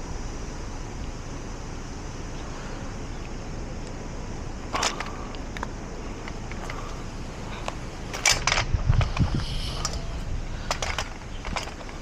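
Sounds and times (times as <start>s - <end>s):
outdoor traffic noise: 0.0s - 12.0s.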